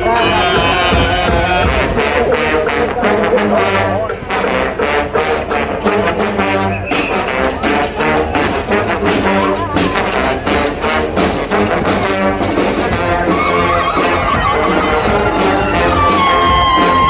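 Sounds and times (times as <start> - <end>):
brass street band playing: 0.0 - 17.0
drums keeping steady beat: 0.0 - 17.0.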